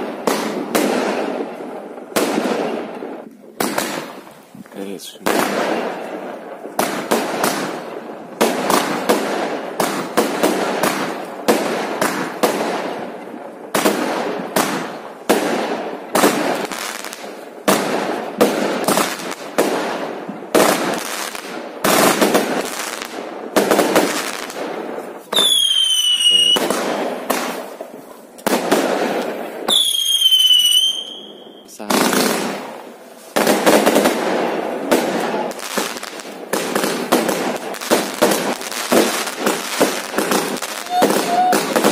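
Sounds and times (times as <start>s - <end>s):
fireworks bangs echoing: 0.0s - 41.9s.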